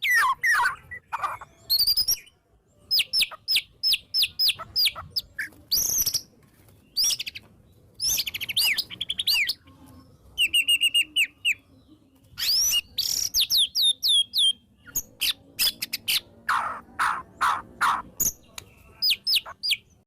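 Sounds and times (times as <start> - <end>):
songbird singing varied phrases: 0.0 - 20.0.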